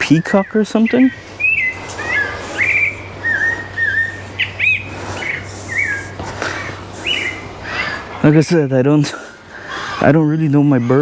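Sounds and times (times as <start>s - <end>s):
birds whistling sliding notes: 0.0s - 10.0s
higher bird chirps: 0.0s - 10.0s.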